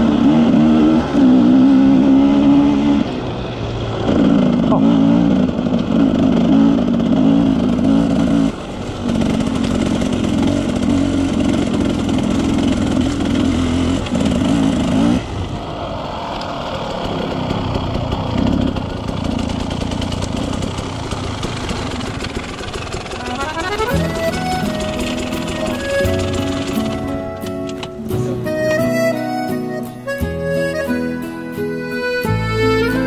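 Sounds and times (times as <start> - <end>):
motorcycle engine under throttle: 0.0 - 28.8.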